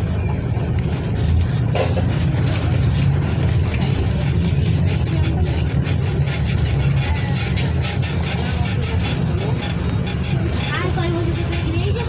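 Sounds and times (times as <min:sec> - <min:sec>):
bus engine rumbling: 0:00.0 - 0:12.0.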